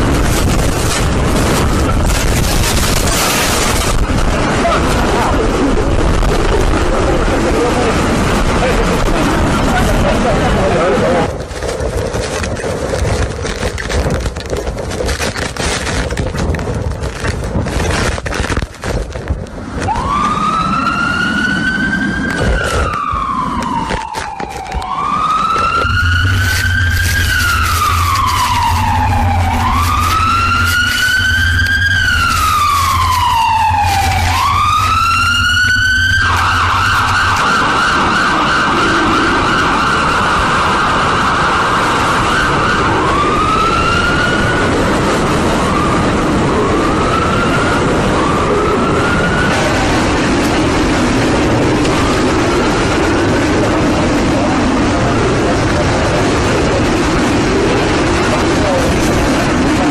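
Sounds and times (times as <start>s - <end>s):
emergency vehicle siren wailing: 0.0s - 14.9s, 19.6s - 59.9s.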